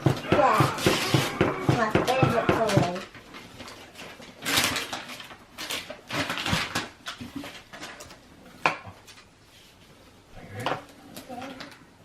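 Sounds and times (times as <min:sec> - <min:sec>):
objects rustling and clattering: 0:00.0 - 0:12.0.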